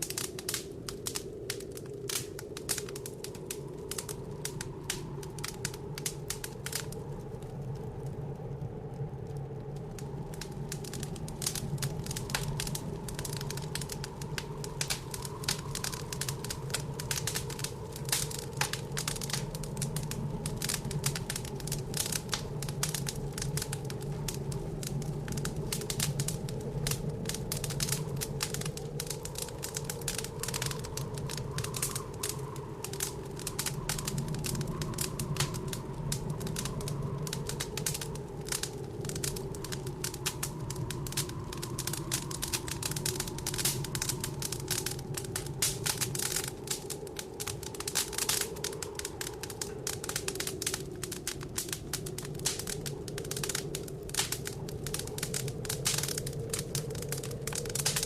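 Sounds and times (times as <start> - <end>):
low blizzard wind: 0.0 - 58.0
wood fire crackling and popping: 0.0 - 58.0.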